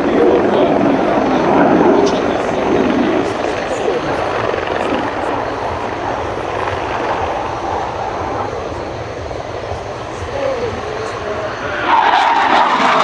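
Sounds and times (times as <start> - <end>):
jet engine rush overhead: 0.0 - 13.0.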